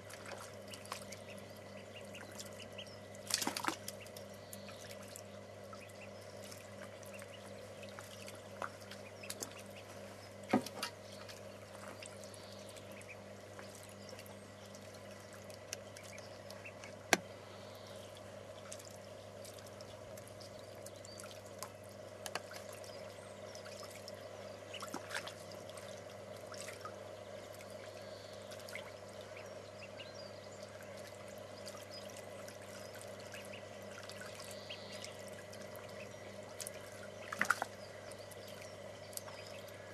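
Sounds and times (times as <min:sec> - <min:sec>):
ducklings splashing in water: 0:00.0 - 0:39.9.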